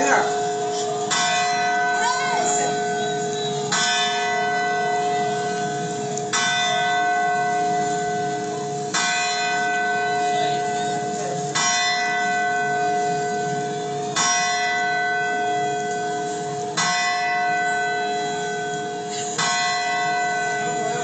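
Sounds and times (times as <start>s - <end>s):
church bell striking: 0.0s - 21.0s.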